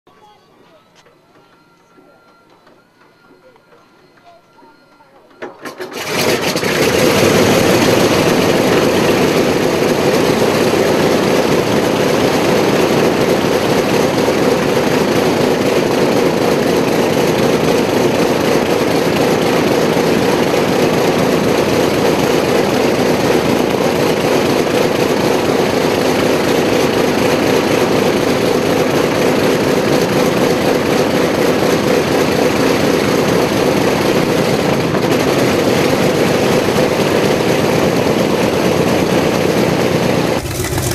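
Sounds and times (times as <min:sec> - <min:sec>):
radial engine idling: 0:00.1 - 0:40.9.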